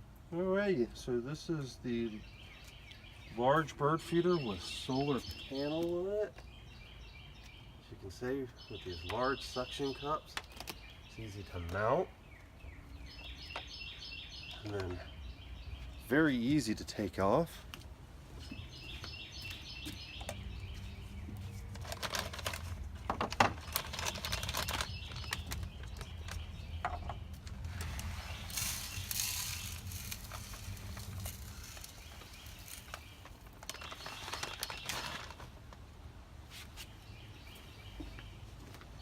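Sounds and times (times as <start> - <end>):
small birds chirping: 0.3 - 35.6, 36.5 - 39.0.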